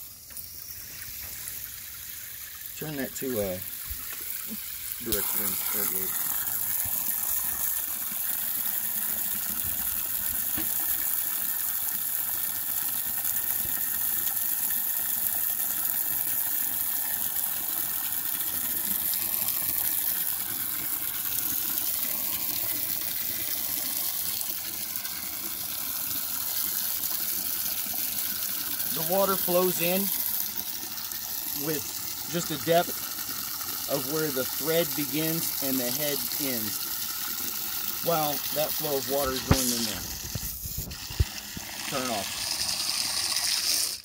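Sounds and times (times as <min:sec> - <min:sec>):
hose water splashing into water: 0:00.0 - 0:44.0.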